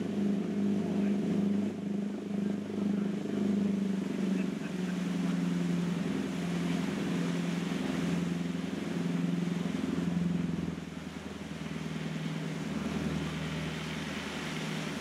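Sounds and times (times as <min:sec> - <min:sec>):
boat engines humming: 0:00.0 - 0:15.0
rushing water noise: 0:00.0 - 0:15.0.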